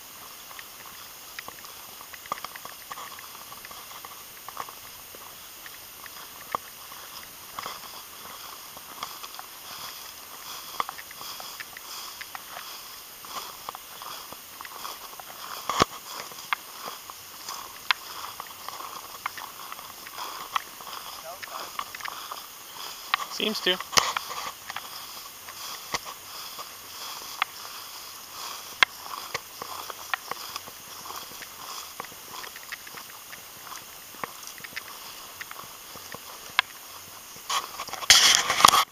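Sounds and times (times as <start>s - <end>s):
footsteps through dry grass: 0.0s - 38.9s.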